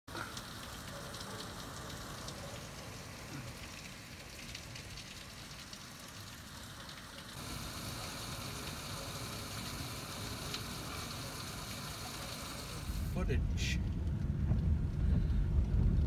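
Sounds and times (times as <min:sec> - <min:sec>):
heavy rain on woodland: 0:00.1 - 0:15.8.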